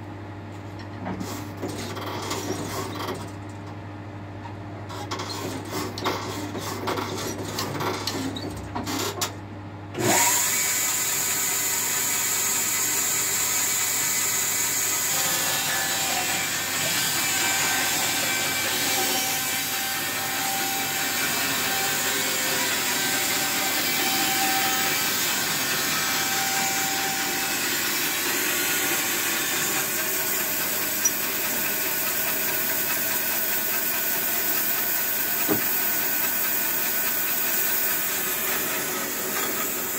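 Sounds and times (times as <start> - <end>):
band saw cutting log: 4.9 - 9.2, 10.0 - 39.9.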